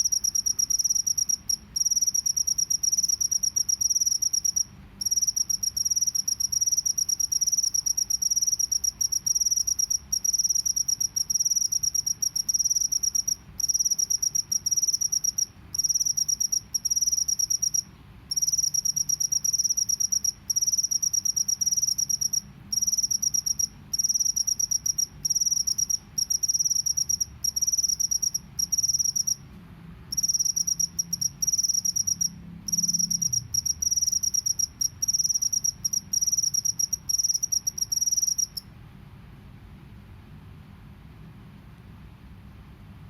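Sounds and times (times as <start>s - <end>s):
cricket chirping in a high trill: 0.0s - 29.5s, 30.1s - 38.7s.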